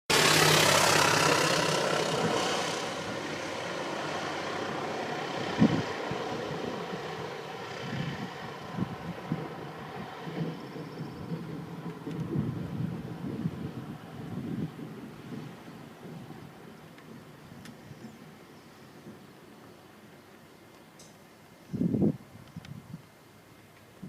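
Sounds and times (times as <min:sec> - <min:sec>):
propeller plane engine passing overhead: 0:00.1 - 0:22.2.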